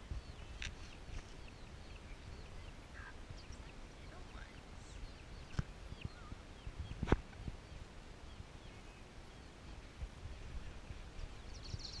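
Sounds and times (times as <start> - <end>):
faint high bird chirps: 0.0 - 9.7, 11.2 - 12.0
steady low rumble: 0.0 - 12.0.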